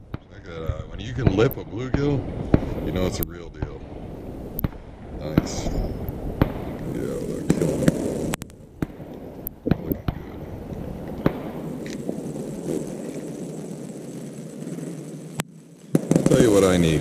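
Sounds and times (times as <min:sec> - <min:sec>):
steady low noise: 0:00.0 - 0:17.0.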